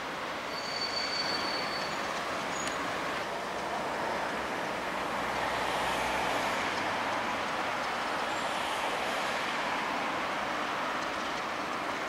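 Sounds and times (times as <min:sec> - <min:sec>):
diesel locomotive rolling slowly: 0:00.0 - 0:12.0.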